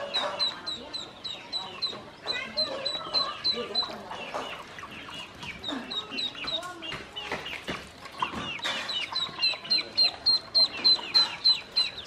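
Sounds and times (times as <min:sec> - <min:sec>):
ducklings peeping: 0:00.0 - 0:12.0
small water splashes: 0:02.1 - 0:12.0.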